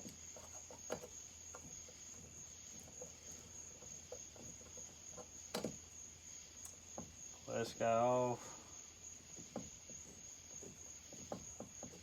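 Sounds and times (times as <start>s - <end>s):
cricket trill: 0.0s - 12.0s.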